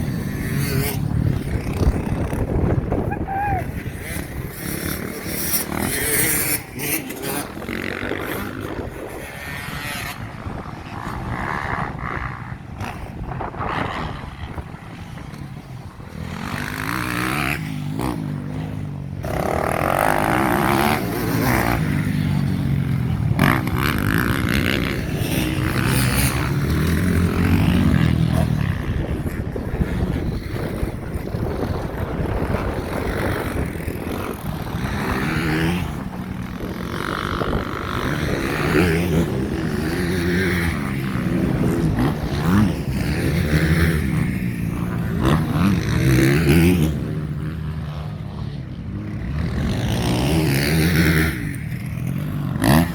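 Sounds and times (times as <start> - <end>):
motocross bikes revving past: 0.0 - 52.9.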